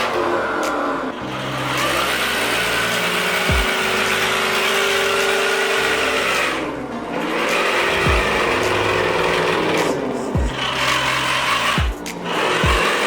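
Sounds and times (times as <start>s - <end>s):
electric motor whine: 0.0s - 13.0s.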